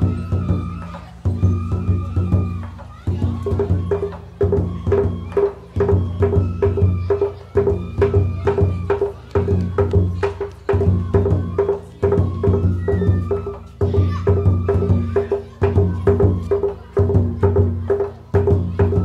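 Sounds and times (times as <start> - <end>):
bamboo flute melody: 0.0 - 19.0
taiko drum rhythm: 0.0 - 19.0.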